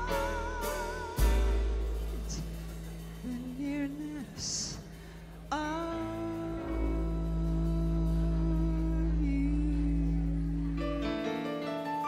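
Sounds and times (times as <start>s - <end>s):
sustained low bass tone: 0.0s - 11.4s
piano notes: 0.0s - 12.0s.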